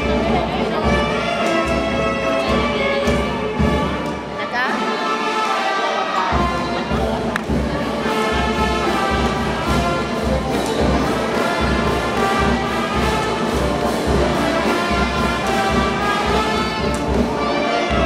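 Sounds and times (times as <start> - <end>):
brass band playing: 0.0 - 18.0.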